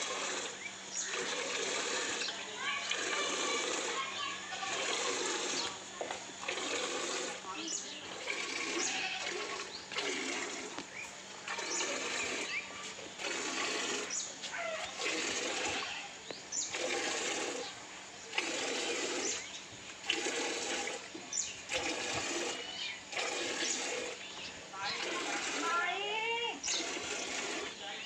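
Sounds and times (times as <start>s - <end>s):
milk squirting into steel bucket: 0.0s - 5.8s, 6.4s - 7.4s, 8.0s - 27.8s.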